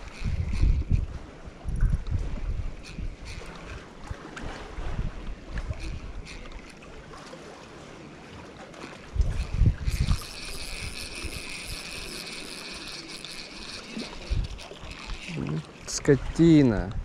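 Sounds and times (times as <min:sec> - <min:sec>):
wind buffeting microphone: 0:00.0 - 0:06.7, 0:09.1 - 0:17.0.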